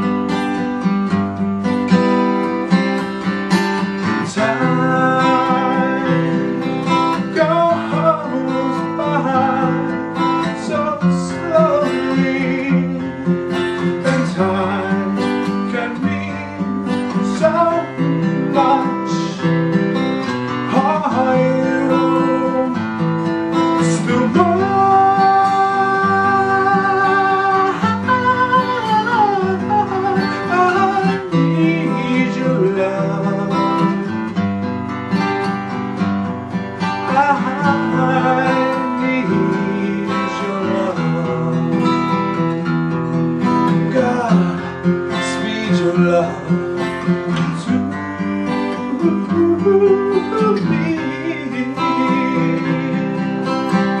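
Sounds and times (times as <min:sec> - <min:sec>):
acoustic guitar ballad: 0:00.0 - 0:54.0
man singing: 0:01.9 - 0:34.6, 0:35.4 - 0:54.0.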